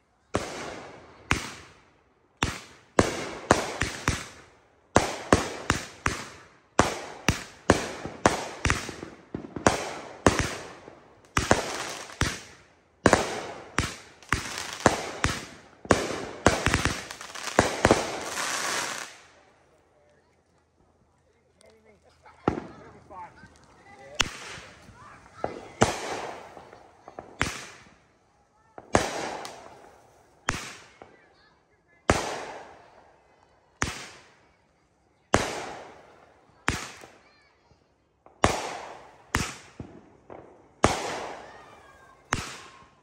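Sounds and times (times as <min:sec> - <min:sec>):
fireworks booming overhead: 0:00.0 - 0:19.9, 0:21.7 - 0:43.0.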